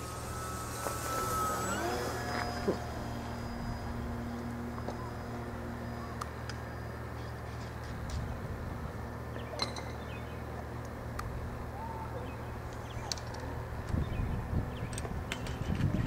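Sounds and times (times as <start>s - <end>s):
model plane motor droning: 0.0s - 16.0s.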